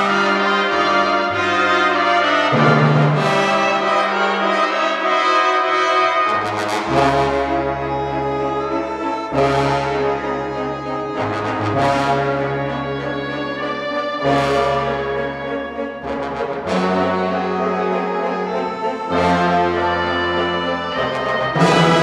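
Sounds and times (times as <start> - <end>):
wind orchestra brass chords: 0.0 - 22.0.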